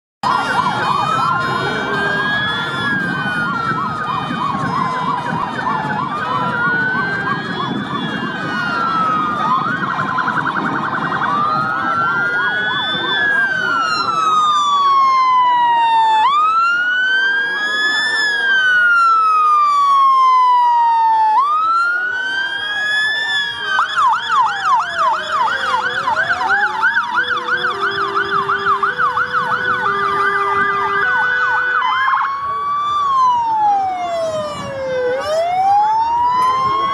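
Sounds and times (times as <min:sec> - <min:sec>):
fire engine sirens: 0:00.2 - 0:36.9.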